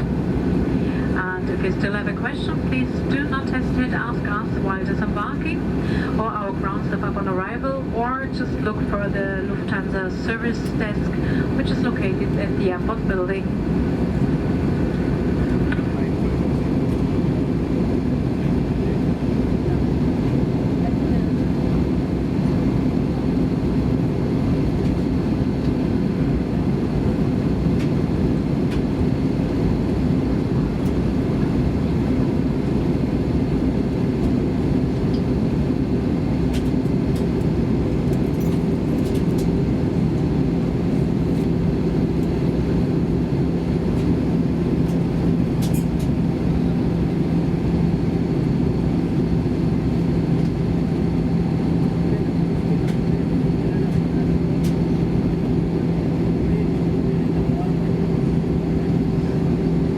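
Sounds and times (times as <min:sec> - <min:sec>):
airflow rush in aircraft cabin: 0:00.0 - 0:59.9
jet engine drone: 0:00.0 - 0:59.9.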